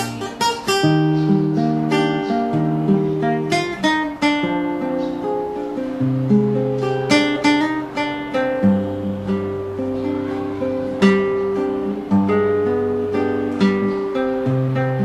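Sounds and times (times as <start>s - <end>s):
classical guitar fingerpicking: 0.0s - 15.0s.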